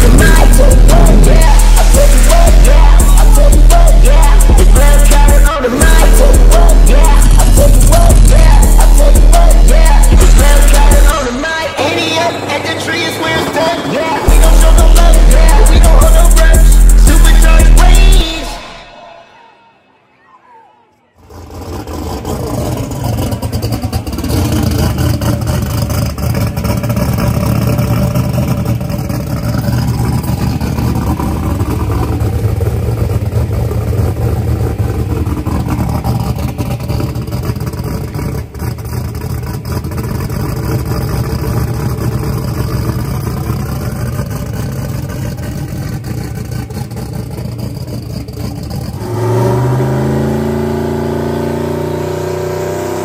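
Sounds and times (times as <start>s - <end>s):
race car engine idling: 0.0s - 18.8s, 21.2s - 51.8s.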